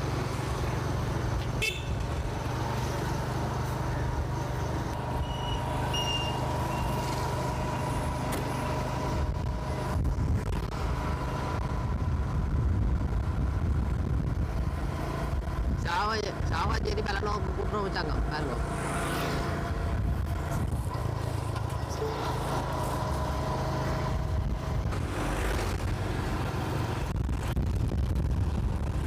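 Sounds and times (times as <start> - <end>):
passing traffic: 0.0 - 29.0
road rumble: 0.0 - 29.0.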